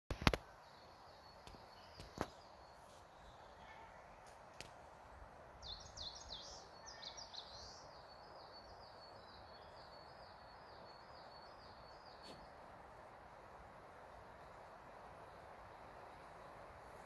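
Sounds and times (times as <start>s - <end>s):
faint steady hiss: 0.1s - 17.0s
songbird singing: 0.1s - 17.0s.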